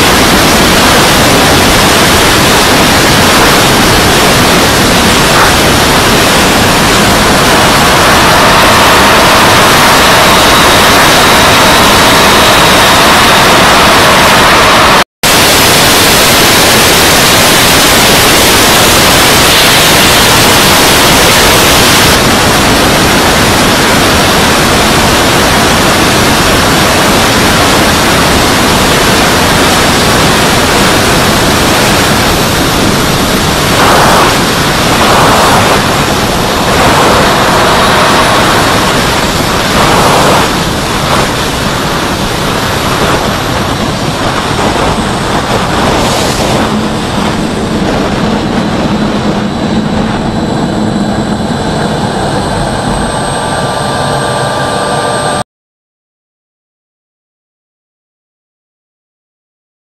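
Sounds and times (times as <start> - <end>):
model jet engine rushing: 0.0 - 55.4.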